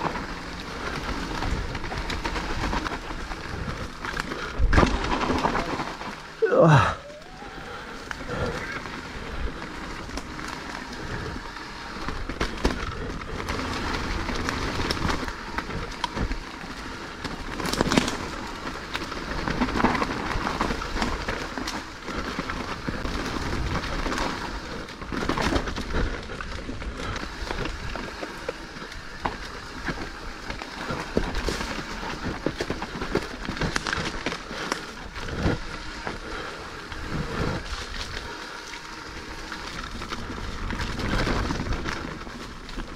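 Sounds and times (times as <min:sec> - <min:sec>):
bike knocks and rattles: 0:00.0 - 0:06.4, 0:08.3 - 0:42.9
bike tyres rumbling on dirt: 0:00.0 - 0:42.9.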